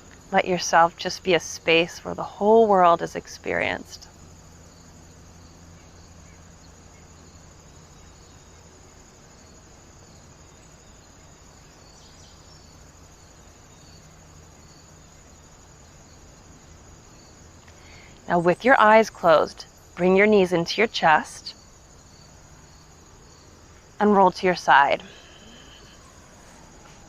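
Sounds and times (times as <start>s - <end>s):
crickets chirping: 0.0s - 27.0s
faint low hum: 0.0s - 27.0s.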